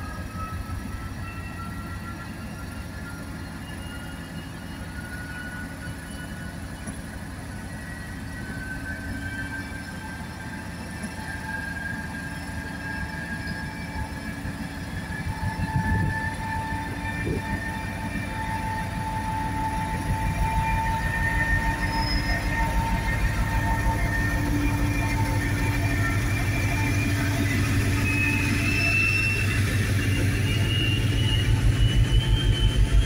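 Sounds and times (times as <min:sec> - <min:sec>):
diesel locomotive engine rumbling: 0:00.0 - 0:33.0
steady high whine: 0:00.0 - 0:33.0.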